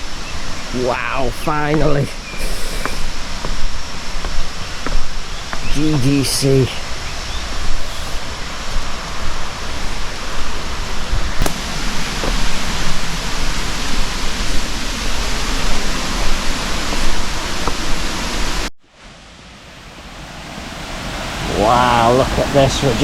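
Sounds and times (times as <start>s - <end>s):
river and waterfall rushing: 0.0s - 23.0s.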